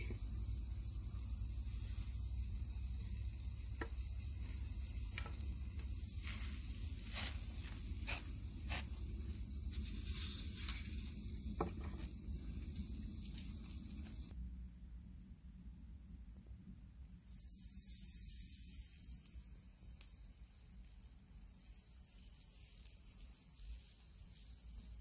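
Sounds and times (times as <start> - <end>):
food sizzling on grill: 0.0 - 14.3, 17.3 - 25.0
fire crackles and pops: 0.0 - 14.4, 17.0 - 25.0.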